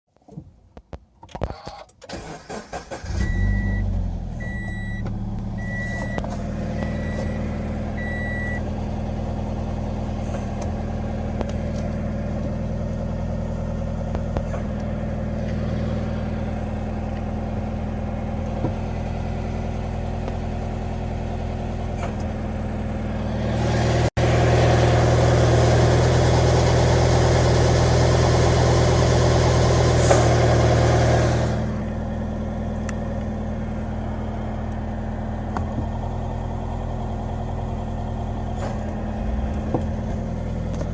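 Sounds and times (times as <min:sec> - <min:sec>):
car engine starting and idling: 0:01.3 - 0:40.9.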